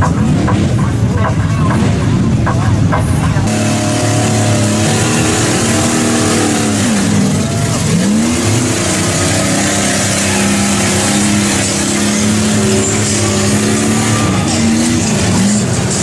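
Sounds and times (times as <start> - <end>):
vehicle engine running under load: 0.0 - 16.0.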